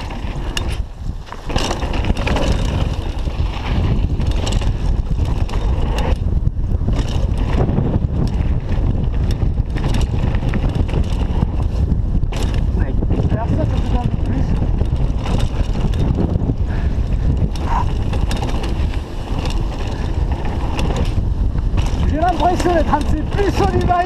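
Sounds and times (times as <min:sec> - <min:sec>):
clicks and knocks from bike: 0:00.0 - 0:24.0
rumble of bike tyres on dirt: 0:00.0 - 0:24.0
wind buffeting microphone: 0:00.0 - 0:24.0.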